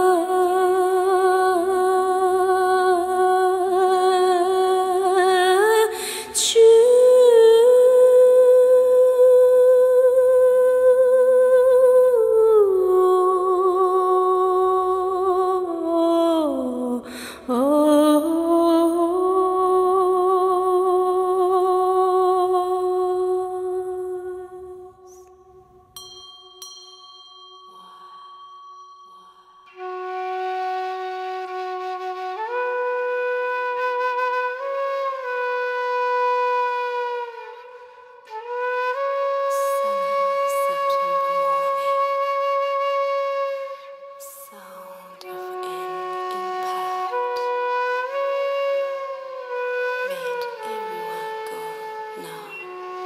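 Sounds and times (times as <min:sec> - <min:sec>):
slow ambient music held tone: 0:00.0 - 0:53.0.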